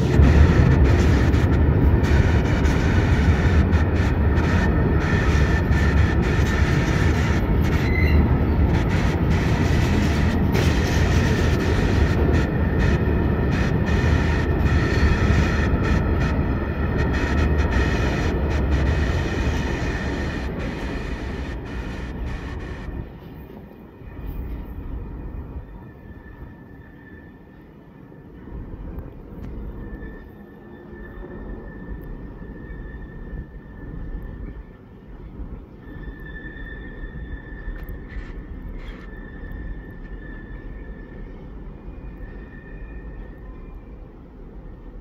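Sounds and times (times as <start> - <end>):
faint high whine: 0.0 - 45.0
freight train rumbling past: 0.0 - 45.0.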